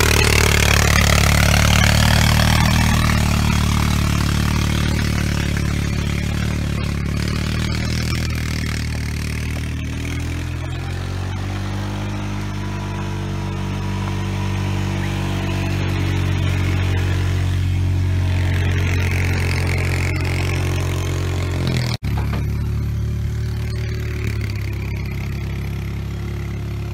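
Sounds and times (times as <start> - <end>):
utility vehicle engine under load: 0.0 - 26.9.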